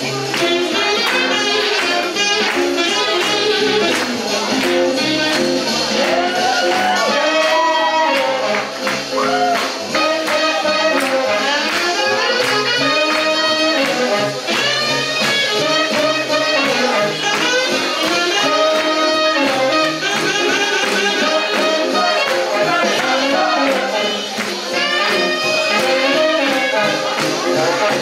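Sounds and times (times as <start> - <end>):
swing jazz with horns: 0.0 - 28.0.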